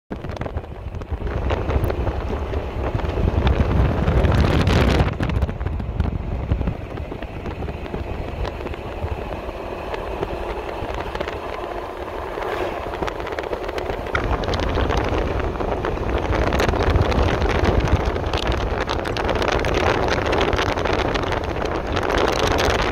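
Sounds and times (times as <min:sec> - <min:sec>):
low tyre rumble: 0:00.1 - 0:22.9
wind buffeting: 0:00.1 - 0:22.9.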